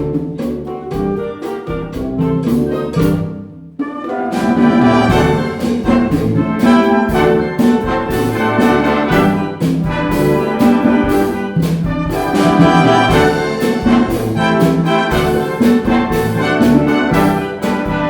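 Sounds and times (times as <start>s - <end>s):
concert band playing latin music: 0.0s - 18.0s
rhythmic percussion: 0.0s - 18.0s
trumpets and trombones: 0.0s - 18.0s.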